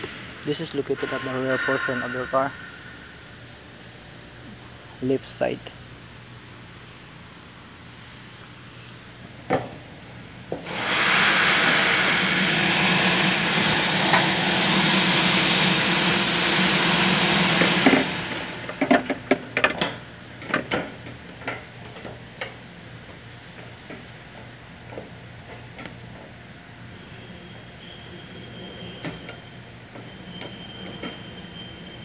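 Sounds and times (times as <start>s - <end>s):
loud steady hiss: 0.0s - 32.0s.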